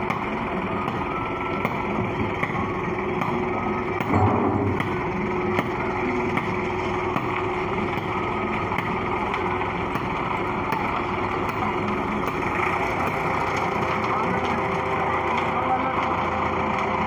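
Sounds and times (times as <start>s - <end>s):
concrete mixer truck drone: 0.0s - 17.0s.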